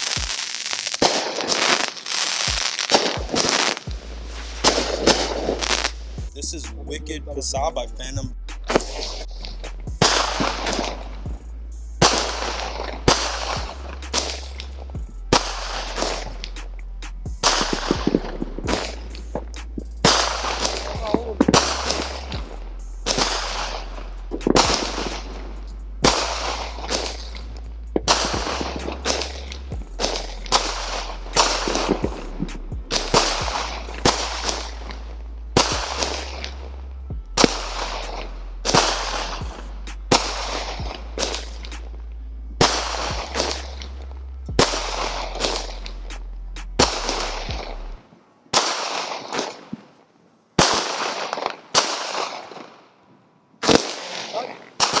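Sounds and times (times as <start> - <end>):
firework shots with crackle: 0.0 - 6.2, 8.1 - 11.2, 12.0 - 16.8, 17.4 - 36.7, 37.4 - 41.9, 42.6 - 44.0, 44.6 - 47.8, 48.5 - 49.9, 50.6 - 52.8, 53.6 - 55.0.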